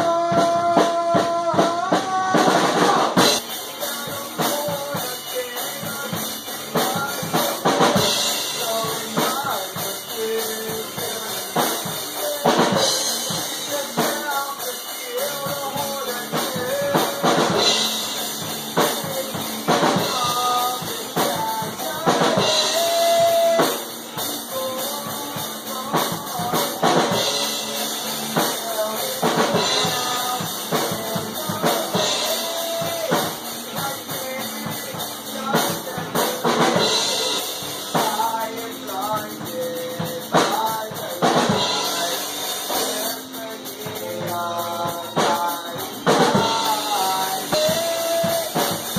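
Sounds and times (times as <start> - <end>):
drum kit playing: 0.0 - 48.9
person singing through pa: 0.0 - 48.9.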